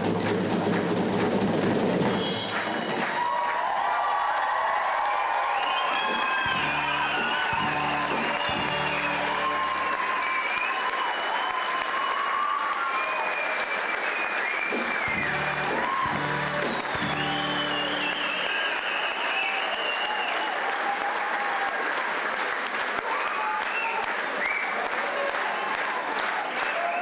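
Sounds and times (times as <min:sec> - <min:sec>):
audience applauding: 0:00.0 - 0:27.0
cheers and whistles: 0:02.5 - 0:22.0, 0:23.0 - 0:27.0.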